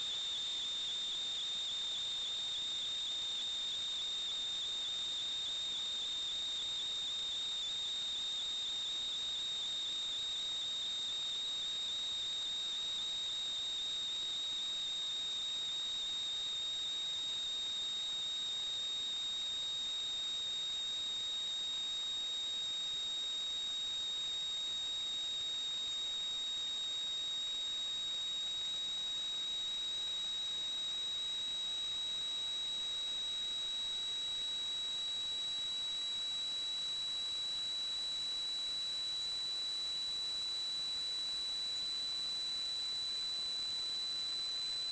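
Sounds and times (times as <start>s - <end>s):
high-pitched electronic whine: 0.0s - 44.9s.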